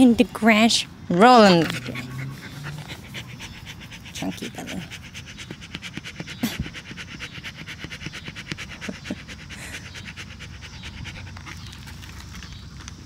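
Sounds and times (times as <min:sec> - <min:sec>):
dog panting: 0:01.2 - 0:12.4.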